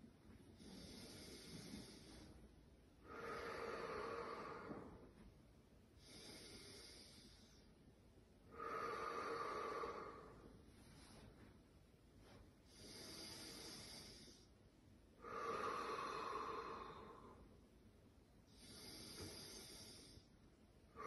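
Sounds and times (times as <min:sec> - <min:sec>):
woman breathing slowly: 0:00.0 - 0:21.0.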